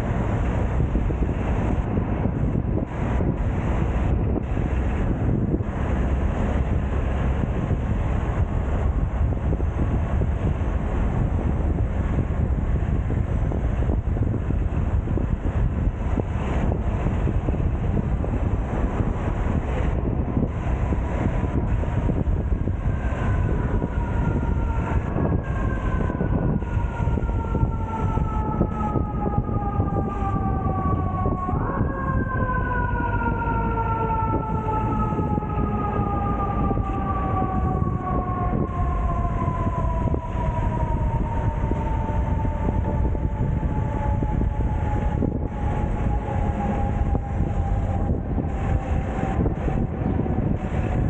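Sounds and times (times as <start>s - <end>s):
street traffic rumble: 0.0s - 51.0s
wind on microphone: 0.0s - 51.0s.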